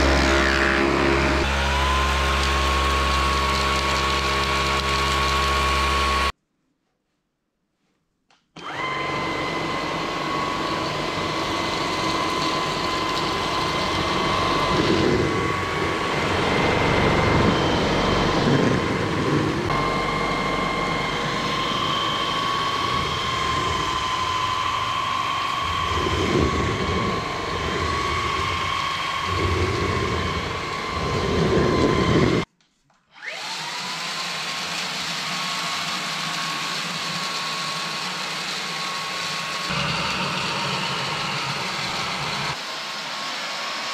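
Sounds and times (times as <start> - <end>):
cordless vacuum running: 0.0 - 6.4, 8.6 - 32.5, 33.1 - 43.9.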